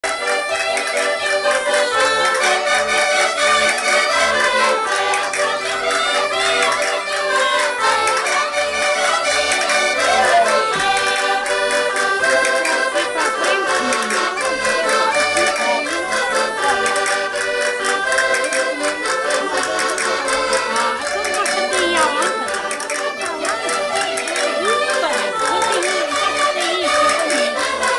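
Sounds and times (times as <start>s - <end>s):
accordion folk tune: 0.0s - 27.9s.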